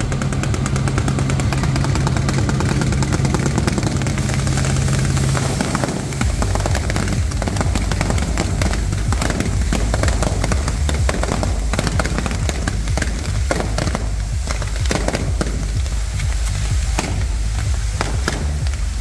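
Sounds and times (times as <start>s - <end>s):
fireworks crackling and popping: 0.0s - 19.0s.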